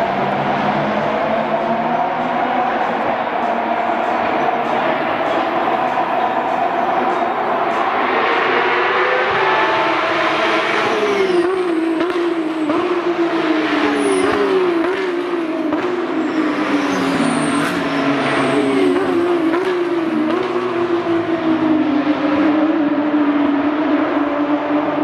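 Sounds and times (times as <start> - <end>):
racing cars passing at speed: 0.0 - 25.0.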